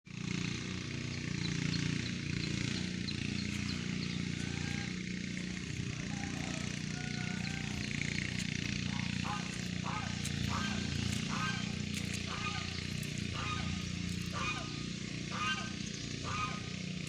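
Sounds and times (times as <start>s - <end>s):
small engine running: 0.1s - 17.0s.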